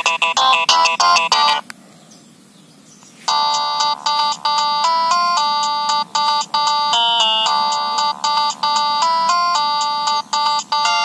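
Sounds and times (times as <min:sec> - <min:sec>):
ringtone held chords: 0:00.0 - 0:01.6, 0:03.3 - 0:11.0
ringtone short beeping notes: 0:00.0 - 0:01.6, 0:03.3 - 0:11.0.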